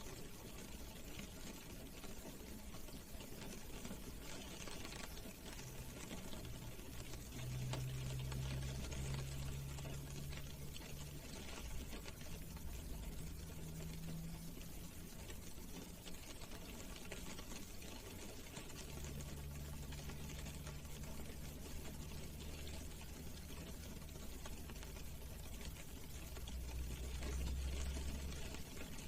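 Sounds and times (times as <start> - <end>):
rain on a car roof: 0.0 - 29.0.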